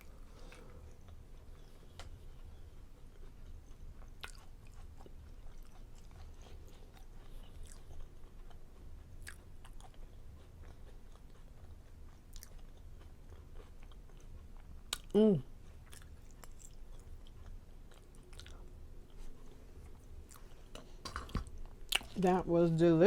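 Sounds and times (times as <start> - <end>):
person chewing: 0.0 - 21.0, 21.6 - 22.2.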